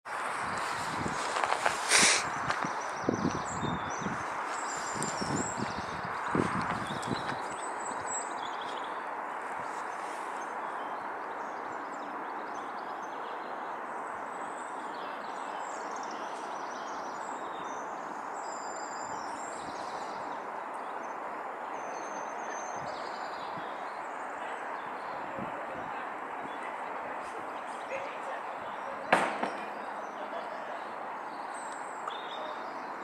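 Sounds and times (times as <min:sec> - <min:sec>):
outdoor background noise: 0:00.0 - 0:33.0
small birds chirping: 0:00.1 - 0:33.0.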